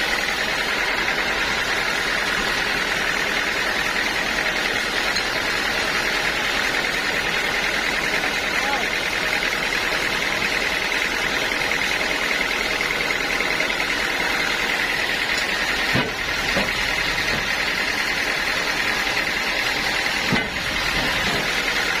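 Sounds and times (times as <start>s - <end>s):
sawmill saw whining: 0.0s - 22.0s.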